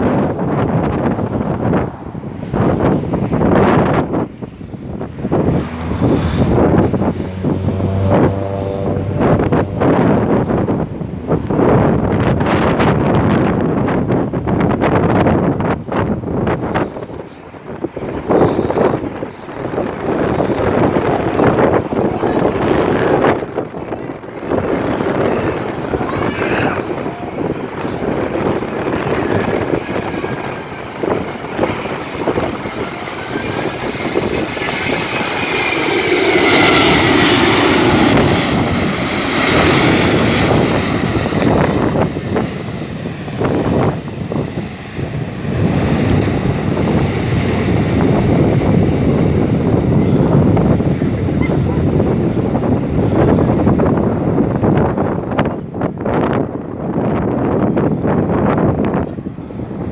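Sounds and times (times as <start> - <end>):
high engine whine: 0.0 - 59.9
jet engines passing: 0.0 - 59.9
wind buffeting microphone: 0.0 - 59.9.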